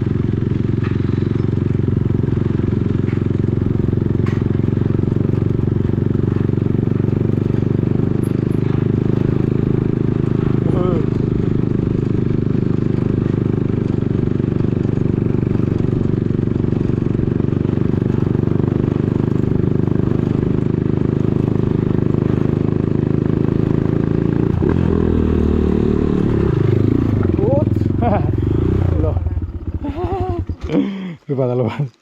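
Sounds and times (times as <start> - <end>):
motorcycle engine running: 0.0 - 31.2.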